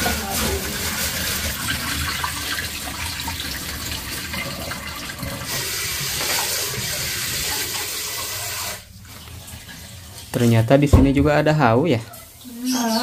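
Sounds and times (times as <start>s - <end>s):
water pouring off: 0.0s - 13.0s
water splashing in a sink: 0.0s - 13.0s.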